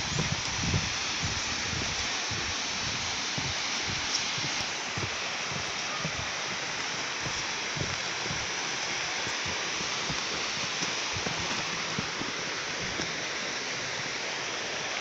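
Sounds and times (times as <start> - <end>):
soft low thumps: 0.0 - 13.3
stream flowing over rocks: 0.0 - 15.0.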